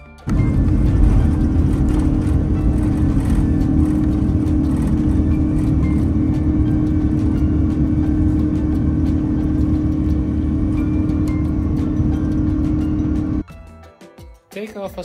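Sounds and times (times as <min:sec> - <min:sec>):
jet engines rumbling in a cabin: 0:00.3 - 0:13.4.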